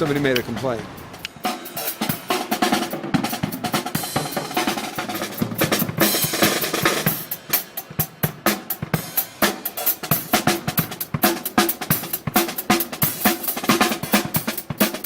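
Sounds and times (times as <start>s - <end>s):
drum kit playing fast beat: 0.0s - 15.0s.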